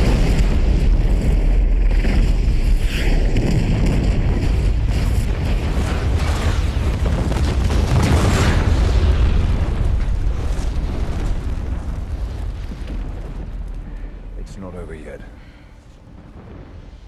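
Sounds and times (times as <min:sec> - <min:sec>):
deep explosion rumble: 0:00.0 - 0:17.0.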